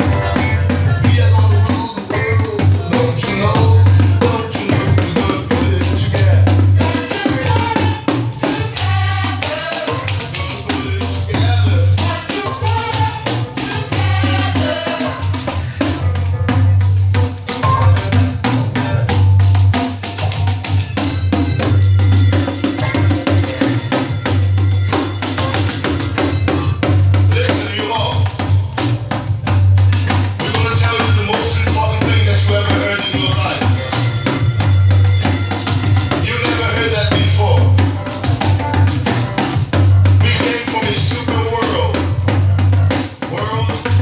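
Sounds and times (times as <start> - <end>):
recorded song with bass: 0.0 - 44.0.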